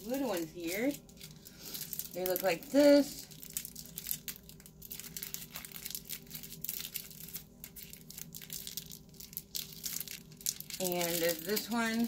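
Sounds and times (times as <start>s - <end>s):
faint steady hum: 0.0s - 12.0s
makeup brushes crinkling and rustling: 0.0s - 12.0s.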